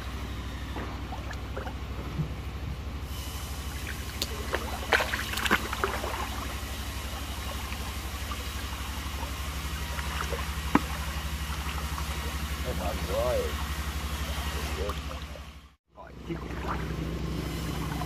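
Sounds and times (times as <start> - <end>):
low pulsing hum: 0.0 - 18.0
water splashing and sloshing: 0.0 - 18.0.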